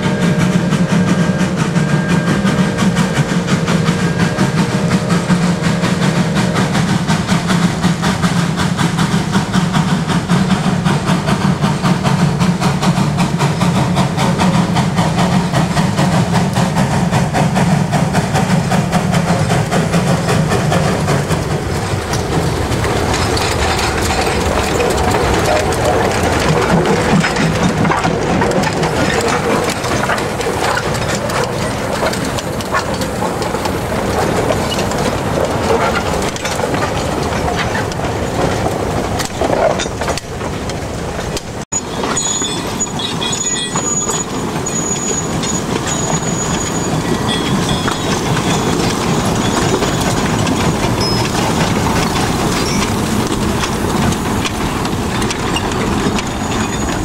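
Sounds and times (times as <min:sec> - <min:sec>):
rail wagon wheels clanking: 0:00.0 - 0:57.0.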